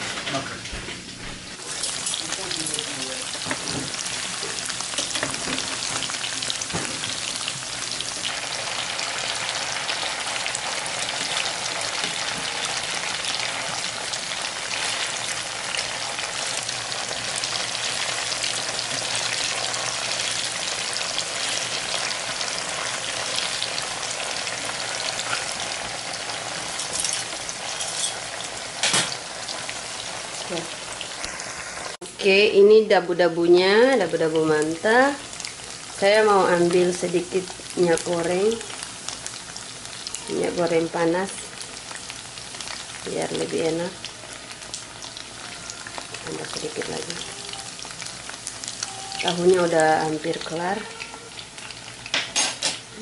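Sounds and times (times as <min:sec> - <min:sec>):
tofu sizzling in hot oil: 0:01.6 - 0:32.0, 0:33.8 - 0:53.0.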